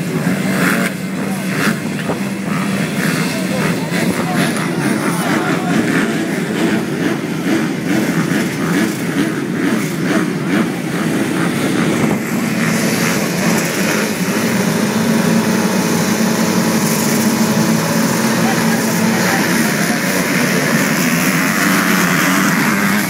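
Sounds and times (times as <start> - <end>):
motocross bikes engine drone: 0.0 - 23.0.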